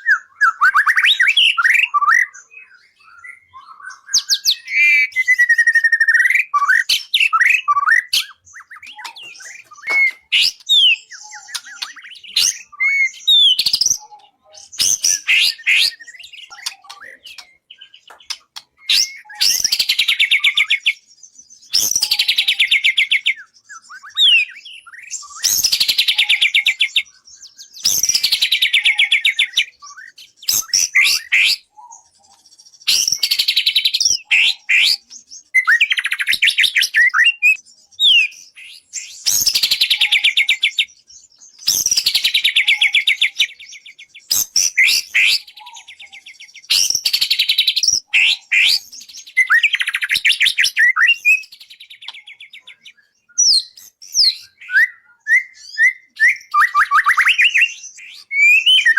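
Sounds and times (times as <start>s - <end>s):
bird whistling song: 0.0s - 58.9s.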